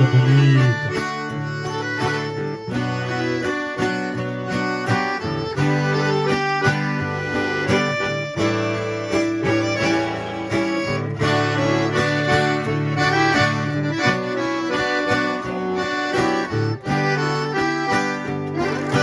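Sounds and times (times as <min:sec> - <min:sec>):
accordion melody: 0:00.0 - 0:19.0
plucked guitar: 0:00.0 - 0:19.0.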